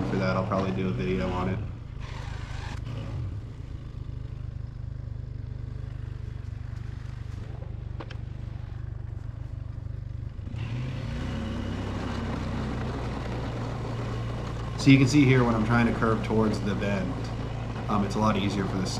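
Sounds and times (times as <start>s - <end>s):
atv engine running: 0.0s - 18.9s.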